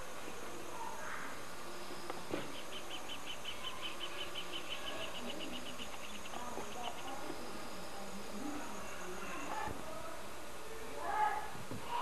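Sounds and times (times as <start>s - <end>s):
insect chirping: 0.0s - 9.7s.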